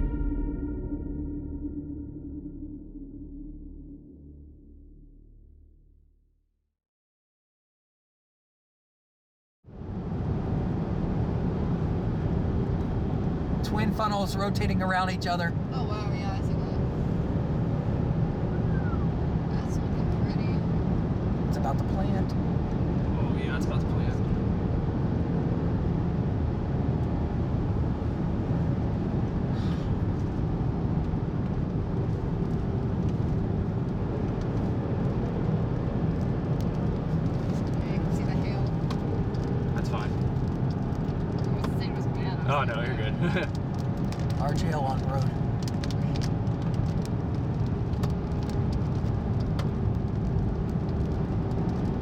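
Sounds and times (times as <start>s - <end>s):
vehicle road and engine rumble: 9.7s - 52.0s.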